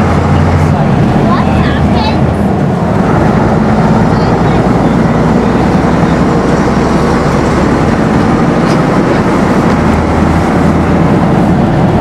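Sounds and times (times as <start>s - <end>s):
diesel bus engine droning: 0.0s - 12.0s
road noise: 0.0s - 12.0s.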